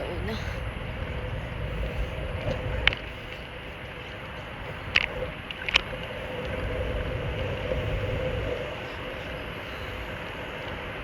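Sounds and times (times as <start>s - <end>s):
wind and tyre rumble: 0.0s - 11.0s.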